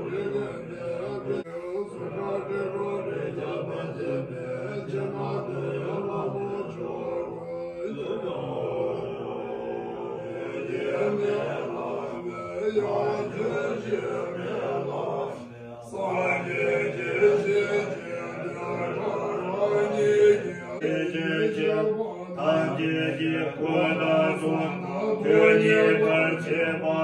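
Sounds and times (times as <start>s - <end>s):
monks chanting: 0.0s - 27.0s.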